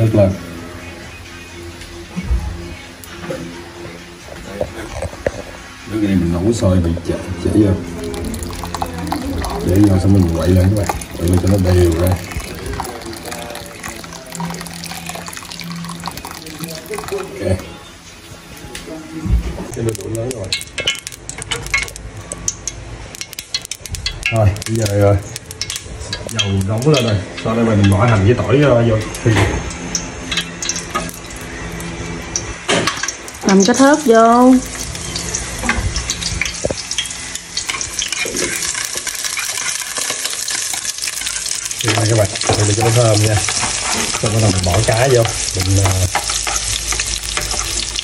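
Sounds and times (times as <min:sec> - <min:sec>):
oil sizzling and popping in pot: 0:07.4 - 0:17.8, 0:19.6 - 0:48.0.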